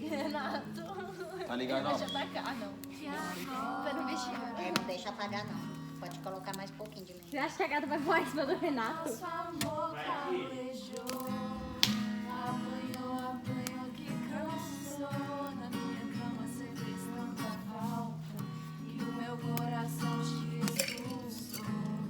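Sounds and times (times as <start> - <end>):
strummed acoustic guitar: 0.0 - 7.0, 7.7 - 22.0.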